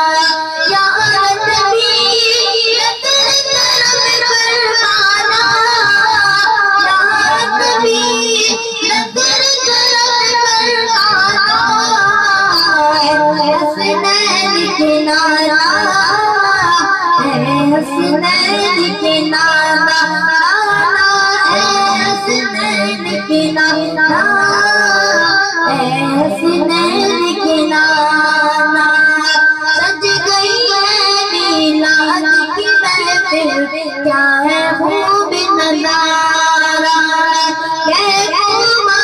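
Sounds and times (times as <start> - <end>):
boy singing into a microphone: 0.0 - 39.0.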